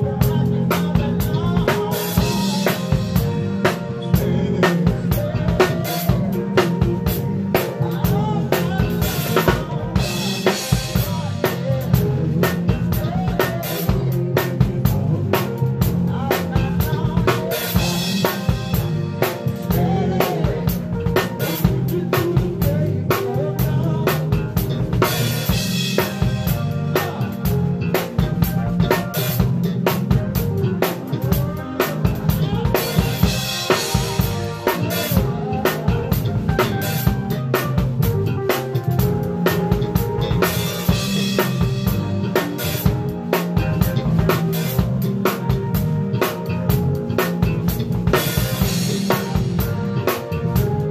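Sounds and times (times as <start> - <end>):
drum kit groove: 0.0 - 50.9
soul funk band playing: 0.0 - 50.9.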